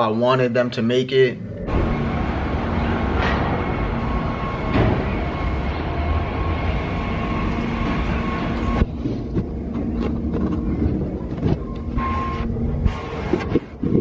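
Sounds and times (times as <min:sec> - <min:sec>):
city street rumble: 0:00.0 - 0:14.0.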